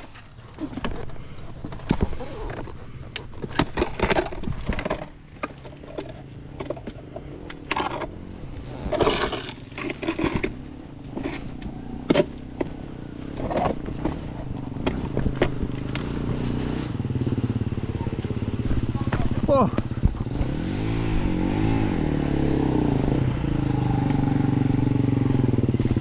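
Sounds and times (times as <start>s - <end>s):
knocks and clatter: 0.0s - 20.9s
dirt bike engine running: 0.0s - 26.0s.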